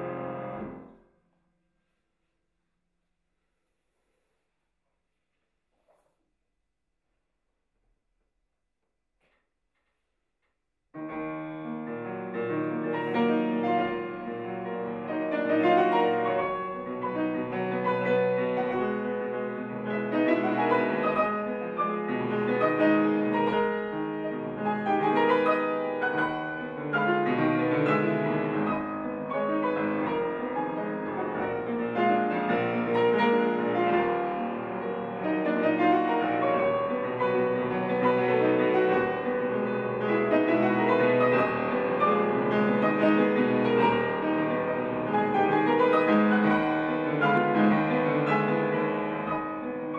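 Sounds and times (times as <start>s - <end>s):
classical piano: 0.0s - 2.5s, 10.9s - 49.9s.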